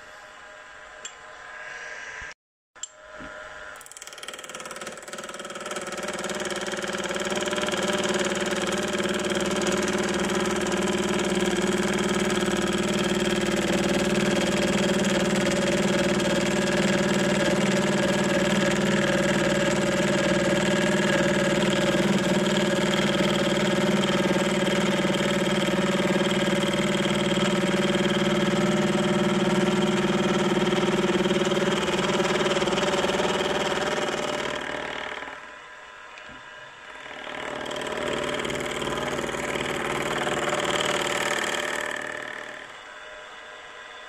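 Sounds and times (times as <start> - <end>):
milling machine whine: 0.4 - 44.0.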